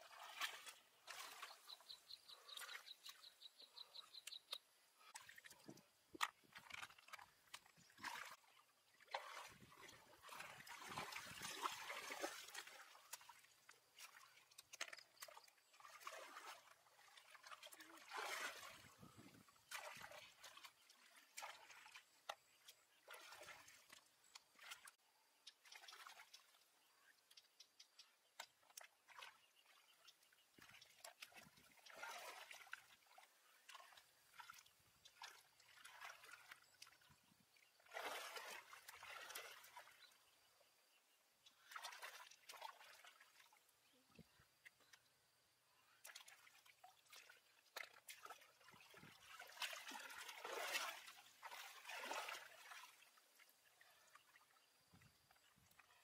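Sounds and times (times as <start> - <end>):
shallow water splashing: 0.0 - 45.0, 45.9 - 56.0.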